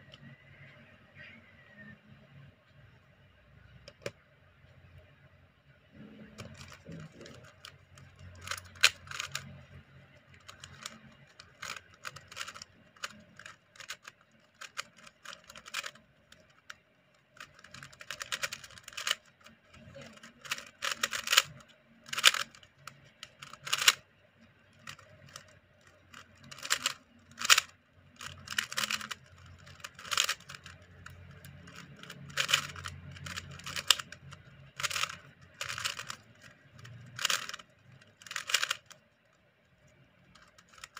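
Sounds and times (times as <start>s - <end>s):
puzzle cube plastic clicks: 0.0s - 1.3s, 3.7s - 4.2s, 6.2s - 40.9s.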